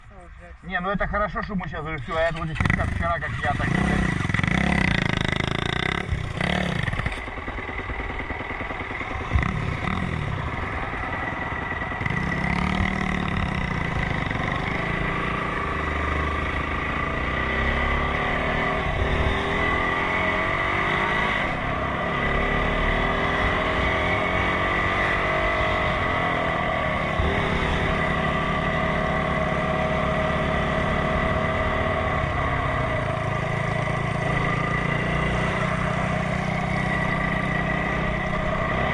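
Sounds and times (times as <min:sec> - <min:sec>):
motorcycle engine revving: 0:02.1 - 0:38.9.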